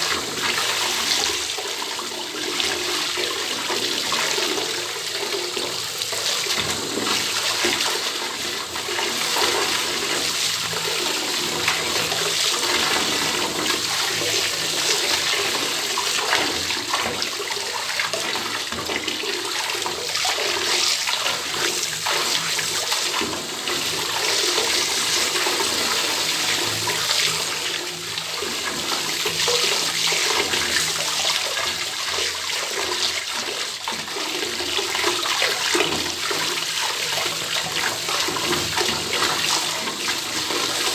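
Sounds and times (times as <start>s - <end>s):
tap water pouring into bathtub: 0.0s - 40.9s.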